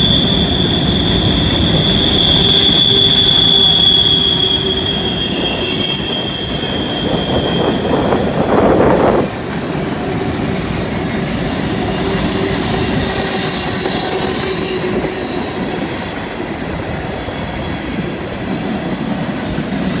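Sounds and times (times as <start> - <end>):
clickety-clack of wheels on rail joints: 0.0 - 20.0
train rumble: 0.0 - 20.0
train wheels squealing: 0.0 - 20.0.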